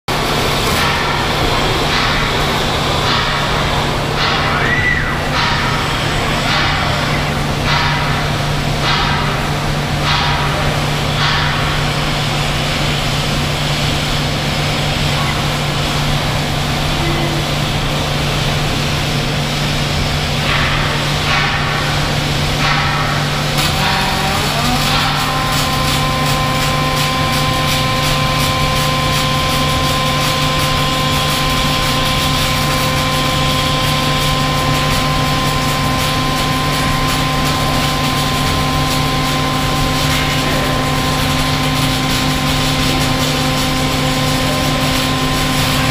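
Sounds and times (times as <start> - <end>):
factory noise: 0.1 - 45.9
machine hum: 0.1 - 45.9.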